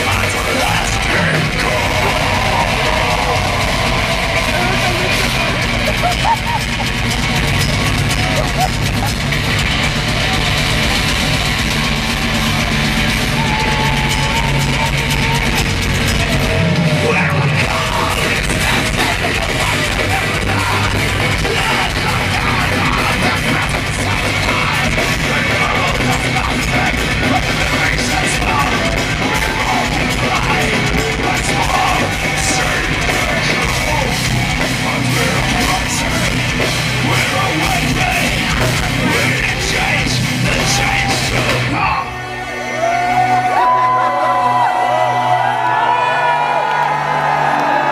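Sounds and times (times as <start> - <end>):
fans yelling: 0.0 - 47.9
live metal band playing: 0.0 - 47.9.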